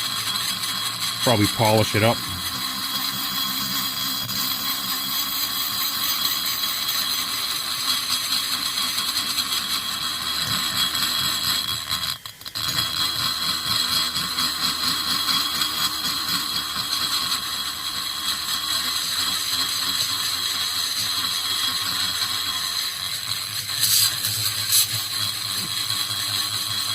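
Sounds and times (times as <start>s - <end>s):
rotary grinding tool whining: 0.0s - 26.9s.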